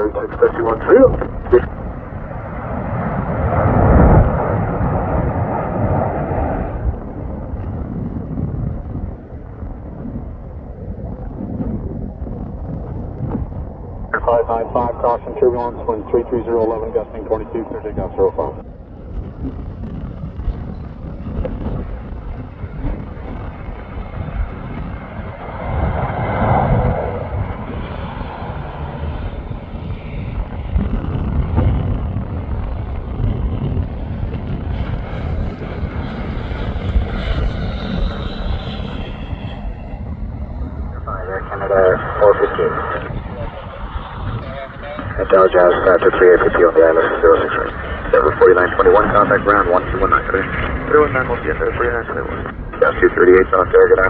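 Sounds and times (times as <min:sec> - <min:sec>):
jet airliner passing: 0:00.0 - 0:54.0
low wind rumble on microphone: 0:00.0 - 0:54.0.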